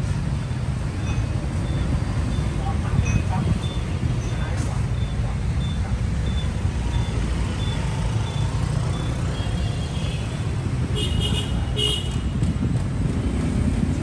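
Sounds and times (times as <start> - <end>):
street traffic rumbling: 0.0 - 14.0.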